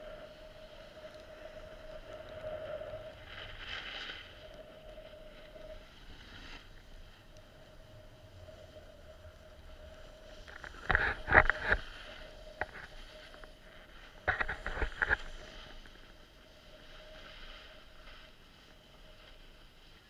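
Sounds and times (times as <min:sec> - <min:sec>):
faint steady whine: 0:00.0 - 0:20.0
low steady rush: 0:00.0 - 0:20.0
snowboard sliding over snow: 0:00.0 - 0:20.0.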